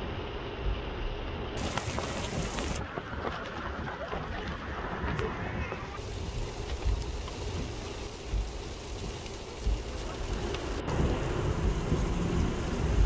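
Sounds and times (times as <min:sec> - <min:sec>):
heavy rain on dirt ground: 0:00.0 - 0:13.0
low rumbles: 0:00.0 - 0:13.0.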